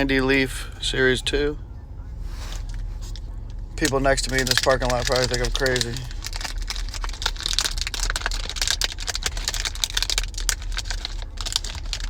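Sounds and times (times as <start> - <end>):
steady low hum: 0.0 - 12.0
cards and wrapper rustling: 2.3 - 12.0.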